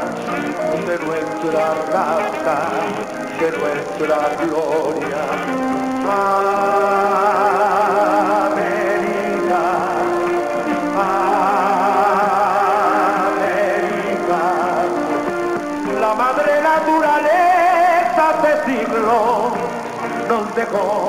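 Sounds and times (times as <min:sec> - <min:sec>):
man singing a ballad: 0:00.0 - 0:15.2, 0:15.8 - 0:21.0.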